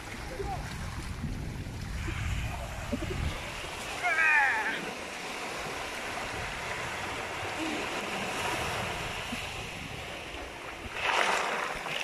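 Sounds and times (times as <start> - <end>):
waves washing onto pebbles: 0.0 - 12.0
wind rumbling on microphone: 0.0 - 12.0.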